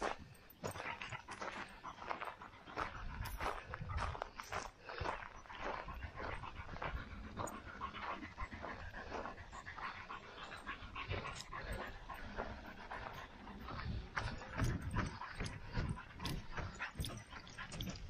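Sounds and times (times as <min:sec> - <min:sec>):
heavy panting: 0:00.0 - 0:18.0
running footsteps on trail: 0:00.0 - 0:18.0.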